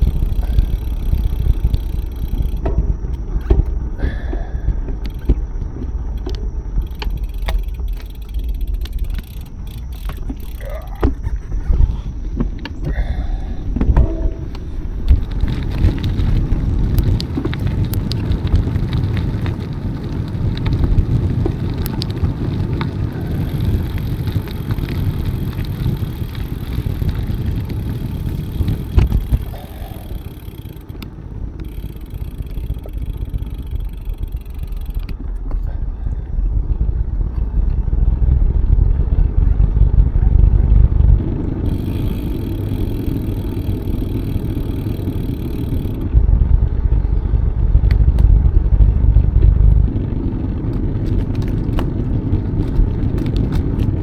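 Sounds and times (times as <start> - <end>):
bicycle clicks and rattles: 0.0 - 54.0
wind rumbling on microphone: 0.0 - 54.0.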